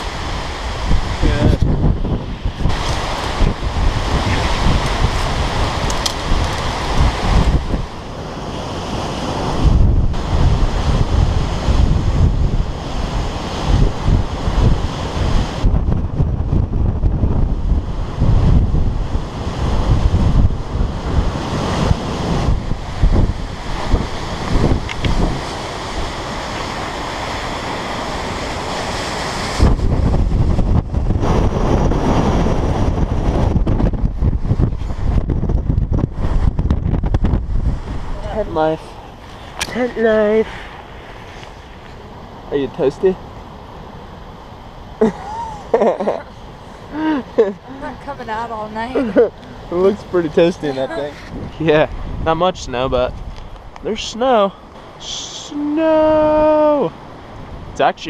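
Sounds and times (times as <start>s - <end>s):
gusting wind on microphone: 0.0s - 58.0s.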